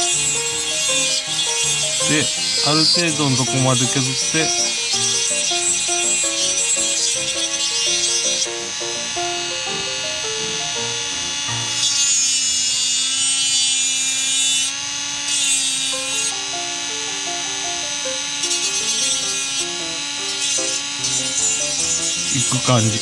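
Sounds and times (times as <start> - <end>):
plucked background music: 0.0 - 12.0, 16.0 - 23.0
rotary tool grinding plastic: 0.0 - 23.0.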